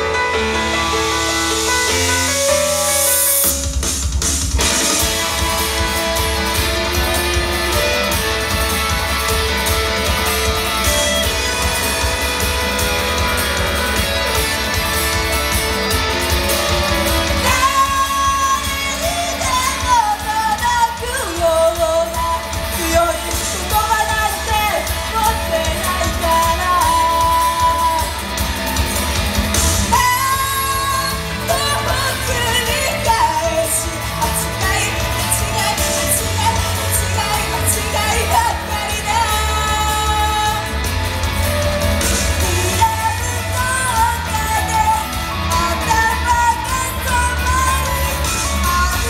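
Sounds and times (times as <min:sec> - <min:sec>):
guitar-driven rock band: 0:00.0 - 0:49.0
steady bass: 0:00.0 - 0:49.0
person singing: 0:04.7 - 0:28.4, 0:29.9 - 0:49.0.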